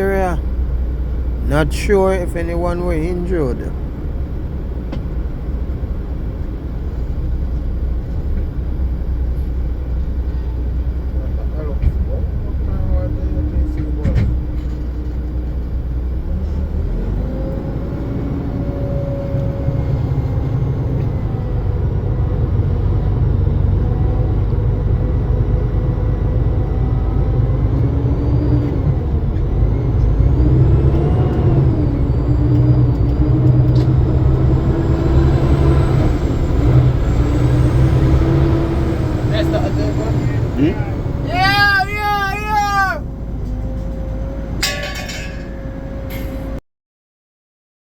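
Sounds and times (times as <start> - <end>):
road traffic: 0.0 - 46.6
vehicle engine rumbling: 0.0 - 46.6.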